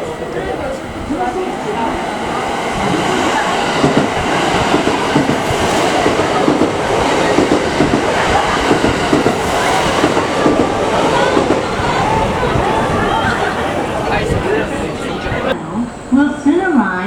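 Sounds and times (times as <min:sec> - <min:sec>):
train wheels on rails: 0:00.0 - 0:15.6.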